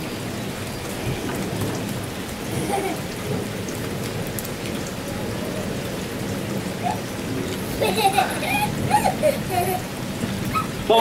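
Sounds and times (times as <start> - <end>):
rain pattering on ground: 0.0 - 11.0.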